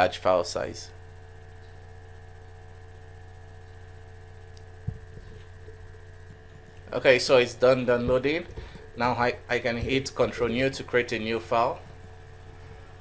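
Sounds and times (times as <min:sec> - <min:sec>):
low electrical hum and hiss: 0:00.0 - 0:13.0.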